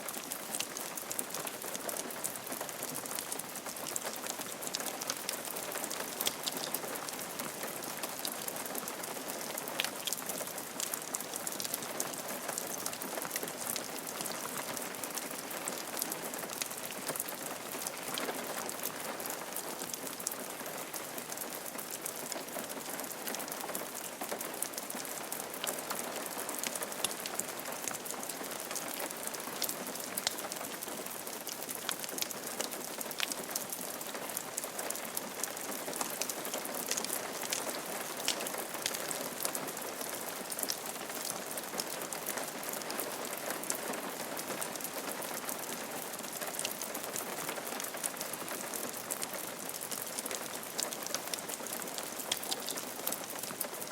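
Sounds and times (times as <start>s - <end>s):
rain falling on a roof: 0.0s - 53.9s.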